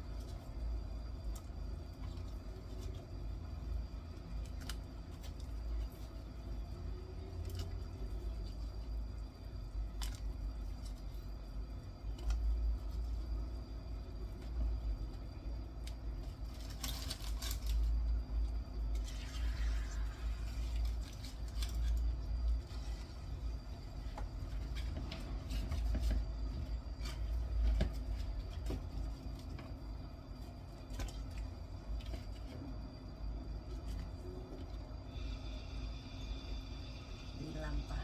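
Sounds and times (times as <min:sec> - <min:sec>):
water boiling in a pot: 0:00.0 - 0:38.0.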